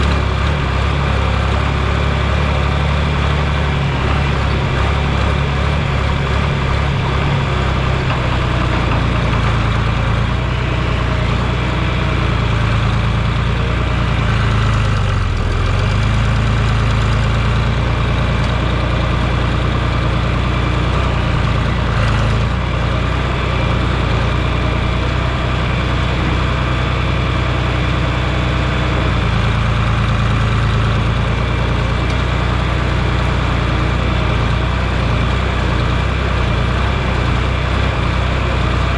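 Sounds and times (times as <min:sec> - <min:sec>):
large engine running: 0:00.0 - 0:38.9.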